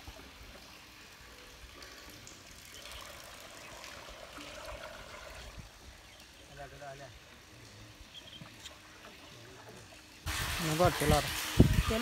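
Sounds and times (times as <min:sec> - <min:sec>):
water pouring and trickling: 0:00.0 - 0:12.0.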